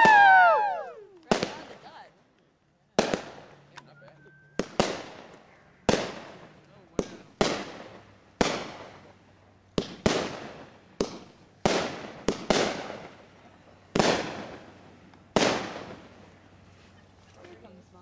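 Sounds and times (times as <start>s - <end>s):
fireworks bangs with echo: 0.0s - 2.1s, 2.9s - 16.4s.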